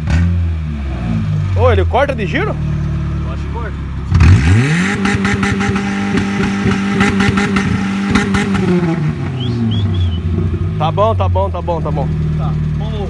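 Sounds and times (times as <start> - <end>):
car engine revving: 0.0 - 13.0
rev limiter crackling: 0.0 - 13.0.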